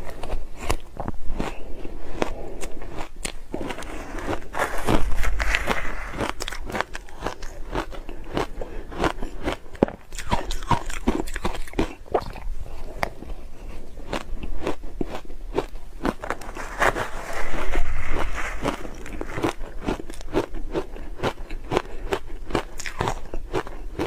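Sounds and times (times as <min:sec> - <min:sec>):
ice crunching being chewed: 0:00.0 - 0:24.0.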